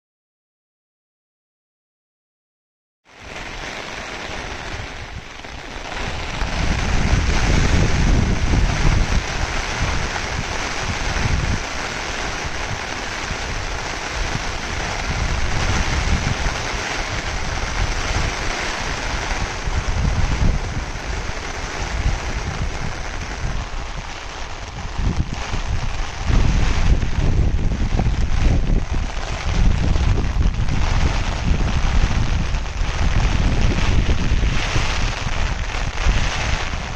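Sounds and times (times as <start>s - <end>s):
heavy rain hissing: 3.1s - 36.9s
wind buffeting microphone: 3.2s - 36.9s.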